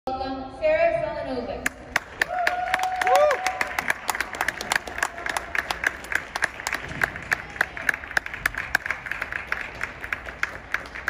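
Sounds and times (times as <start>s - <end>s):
audience clapping: 1.6s - 11.0s.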